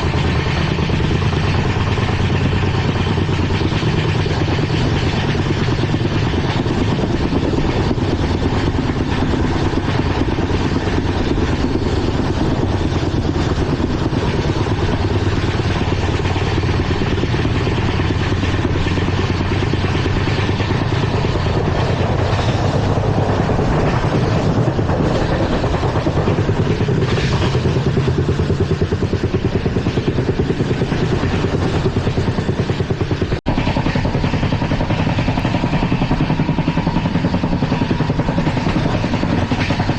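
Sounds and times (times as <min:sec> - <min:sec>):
train wheels on rail rumbling: 0:00.0 - 0:39.9.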